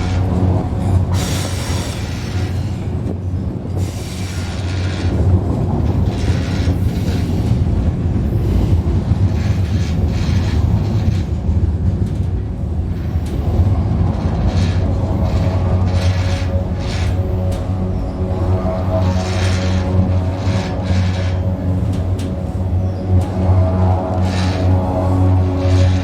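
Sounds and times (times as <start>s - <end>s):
railway bridge droning: 0.0s - 26.0s
train wheels screeching on rails: 0.0s - 26.0s.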